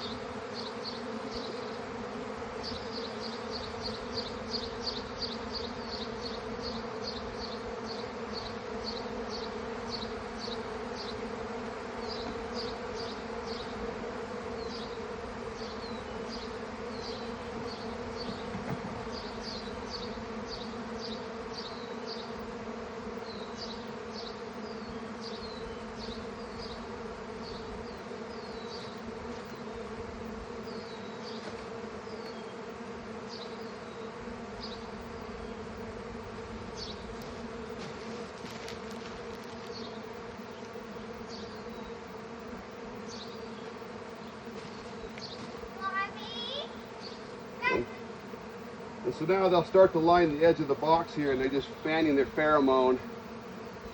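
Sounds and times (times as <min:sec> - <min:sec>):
bee swarm buzzing: 0:00.0 - 0:53.9.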